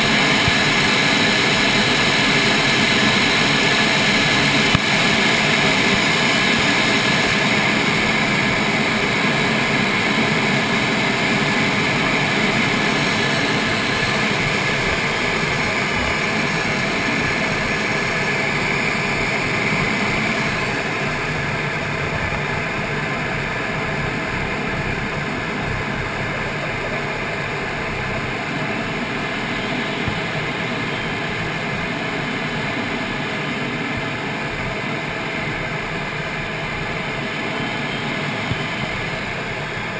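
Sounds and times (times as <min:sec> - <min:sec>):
jet engine and airflow noise: 0:00.0 - 0:39.9.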